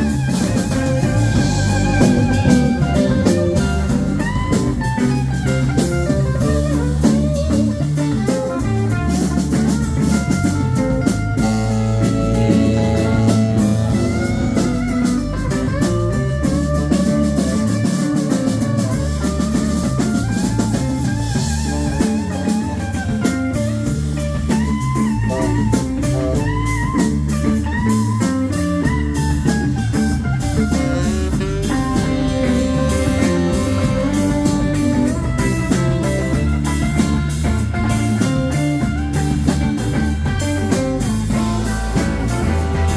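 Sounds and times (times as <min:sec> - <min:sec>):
drum kit: 0:00.0 - 0:42.9
lead guitar with bent notes: 0:00.0 - 0:42.9
rock band playing: 0:00.0 - 0:42.9.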